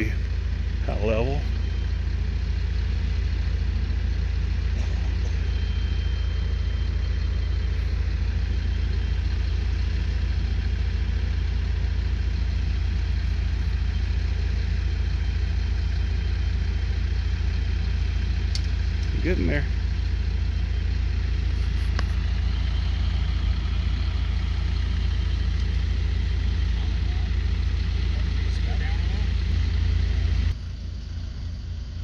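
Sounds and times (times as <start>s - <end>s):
engine idling with low rumble: 0.0s - 32.0s.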